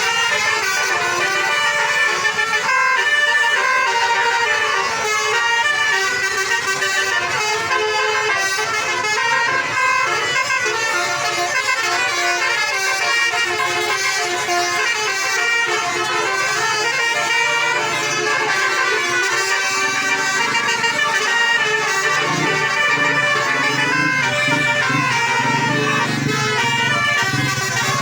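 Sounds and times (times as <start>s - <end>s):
bus melody horn playing a tune: 0.0s - 28.0s.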